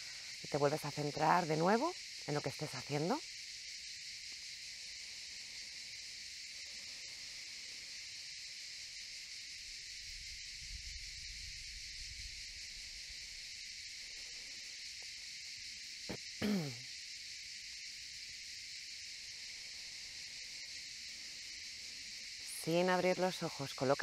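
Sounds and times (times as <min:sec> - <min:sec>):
cicadas chorus: 0:00.0 - 0:24.0.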